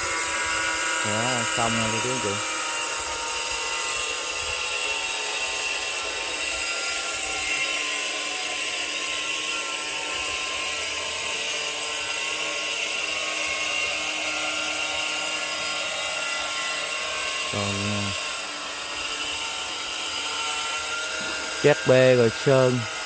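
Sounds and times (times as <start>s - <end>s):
electric power tool whining: 0.0s - 23.0s.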